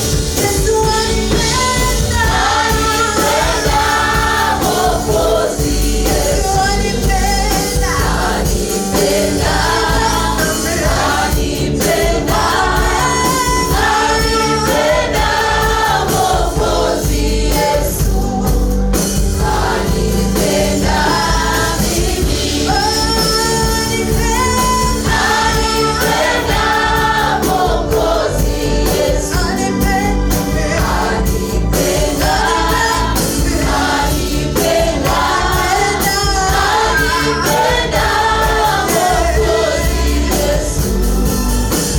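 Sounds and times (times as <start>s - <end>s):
band accompaniment with bass: 0.0s - 41.9s
choir singing gospel: 0.0s - 41.9s.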